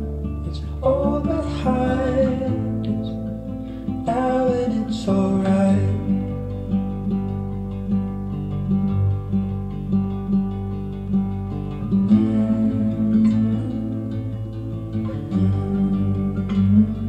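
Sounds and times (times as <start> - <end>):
plucked acoustic guitar: 0.0 - 17.0
strummed guitar chords: 0.0 - 17.0.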